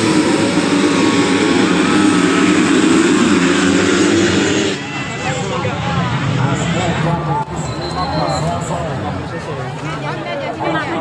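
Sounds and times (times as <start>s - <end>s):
motorcycle engines revving: 0.0s - 9.3s.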